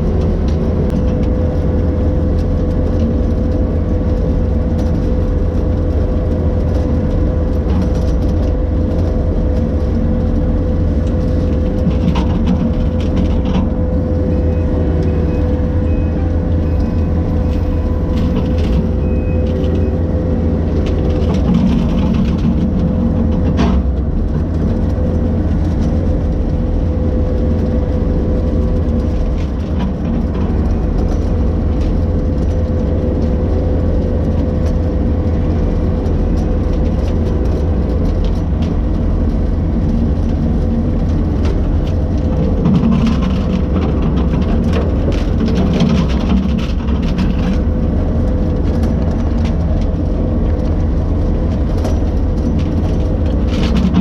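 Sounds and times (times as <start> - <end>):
heavy engine droning with whine: 0.0 - 54.0.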